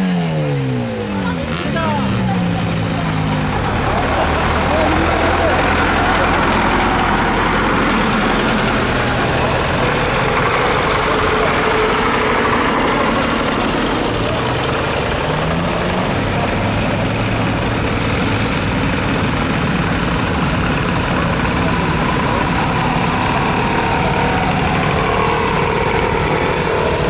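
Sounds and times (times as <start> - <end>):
tractor engines running: 0.0 - 27.0.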